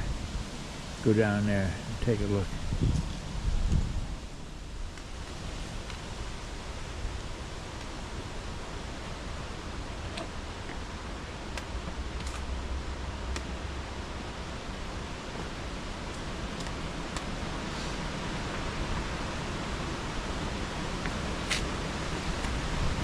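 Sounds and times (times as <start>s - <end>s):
rushing outdoor noise: 0.0s - 23.0s.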